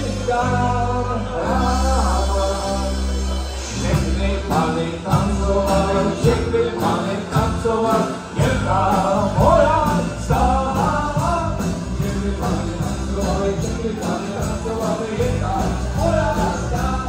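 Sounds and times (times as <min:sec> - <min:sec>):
live dance band playing: 0:00.0 - 0:17.0
steady drum beat: 0:00.0 - 0:17.0.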